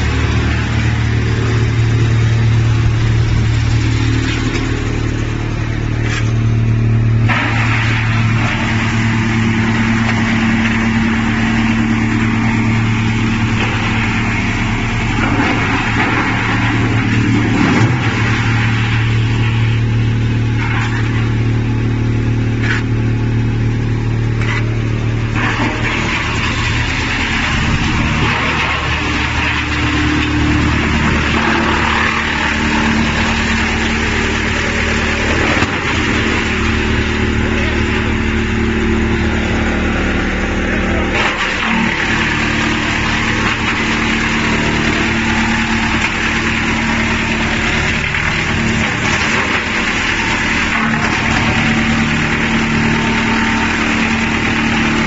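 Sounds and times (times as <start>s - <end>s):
wood-processing machine humming: 0.0s - 55.0s.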